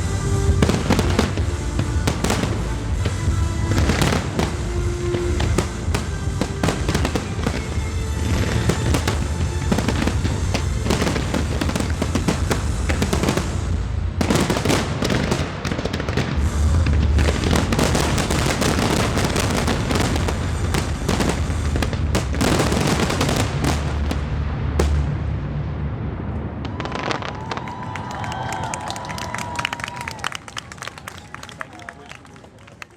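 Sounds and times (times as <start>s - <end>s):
fireworks bursting and crackling: 0.0s - 25.5s, 26.4s - 31.4s
deep fireworks booms: 0.0s - 28.2s.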